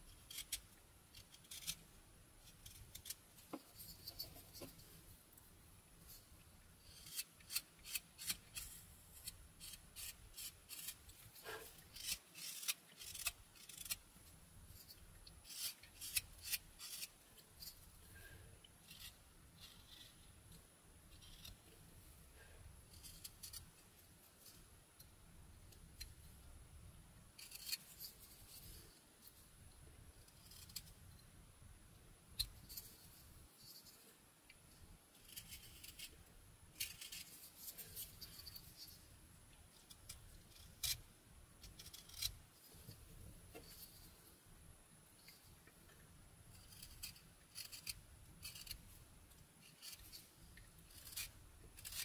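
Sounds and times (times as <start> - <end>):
knife carving wood shavings: 0.0 - 5.1, 6.0 - 24.7, 27.3 - 29.3, 30.2 - 31.2, 32.3 - 34.1, 35.1 - 44.2, 45.2 - 52.0.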